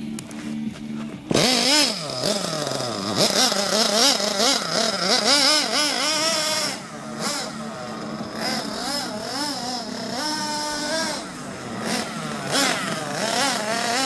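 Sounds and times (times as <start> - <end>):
small nitro engine revving: 1.2 - 14.0.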